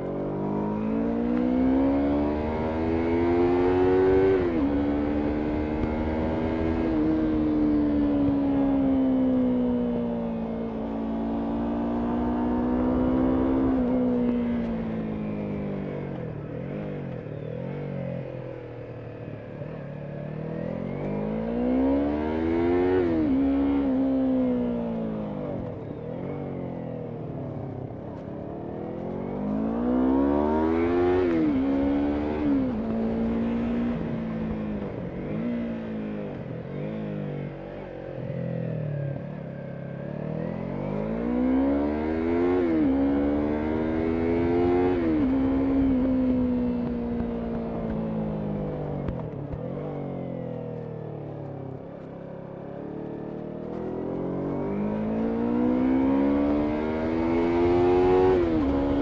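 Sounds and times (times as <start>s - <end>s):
low rumble of wind: 0.0s - 59.0s
motorcycle engine pulling uphill: 0.0s - 59.0s.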